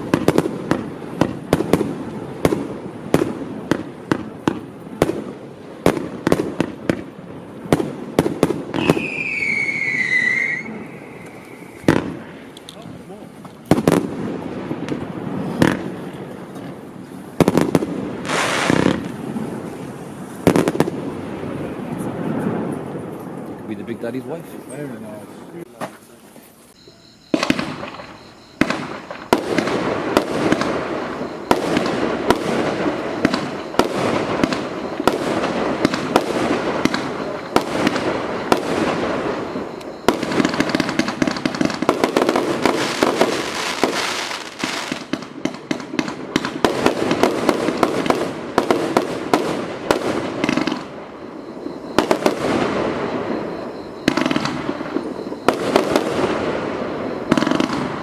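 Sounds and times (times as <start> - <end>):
firework aerial bursts: 0.0 - 12.6, 13.2 - 23.4, 26.6 - 58.0.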